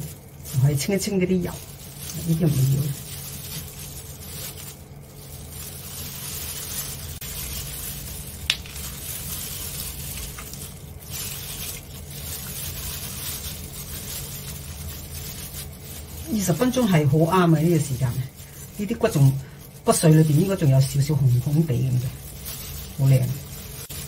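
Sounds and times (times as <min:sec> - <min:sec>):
chicken being shredded by hand: 0:00.0 - 0:24.0
plastic gloves crinkling: 0:00.0 - 0:24.0
steady low hum: 0:00.0 - 0:24.0.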